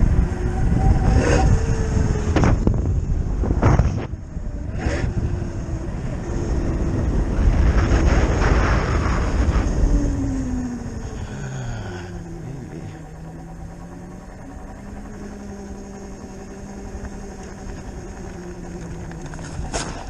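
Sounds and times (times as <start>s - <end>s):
electric motor whine: 0.0s - 20.0s
wind buffeting microphone: 0.0s - 20.0s.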